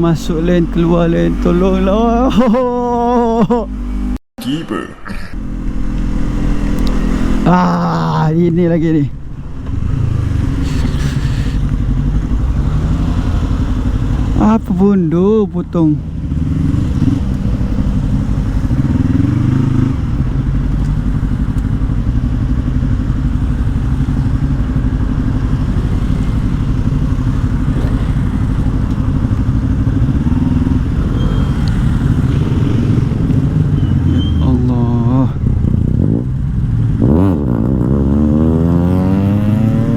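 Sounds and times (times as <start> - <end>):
motorcycle engine accelerating: 0.0 - 4.2, 5.4 - 8.6, 9.3 - 39.9.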